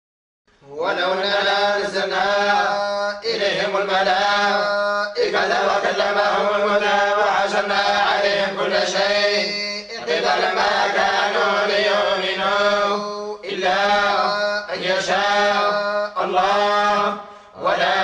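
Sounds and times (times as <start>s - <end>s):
men chanting in unison: 0.6s - 18.0s.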